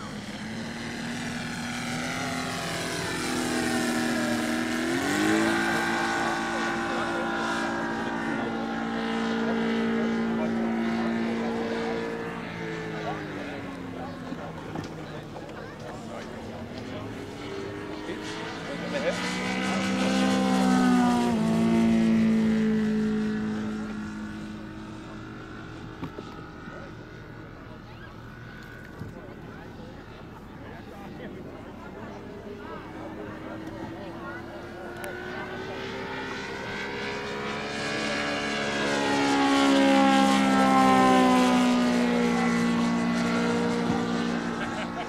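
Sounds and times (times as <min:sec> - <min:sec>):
model plane radial engine: 0:00.0 - 0:45.0.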